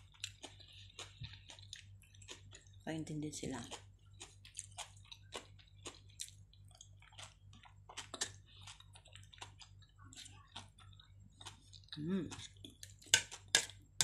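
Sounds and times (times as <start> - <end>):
person chewing food: 0.0 - 2.8, 3.6 - 14.0.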